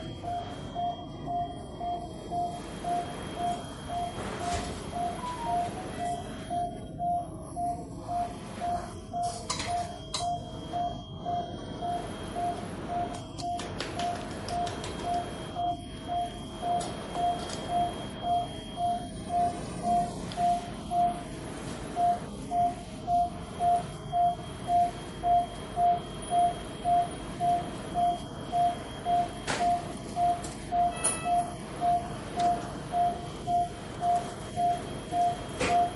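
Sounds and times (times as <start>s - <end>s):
patient monitor beeping: 0.0s - 35.9s.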